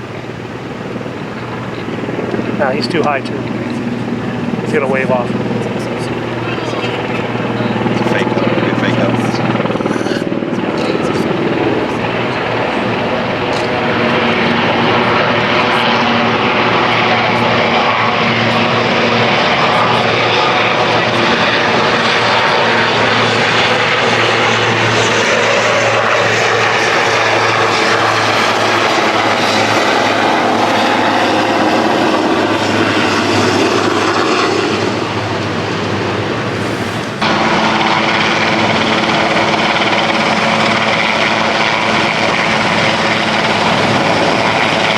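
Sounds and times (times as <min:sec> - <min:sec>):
helicopter rotors and turbines: 0:00.0 - 0:44.9.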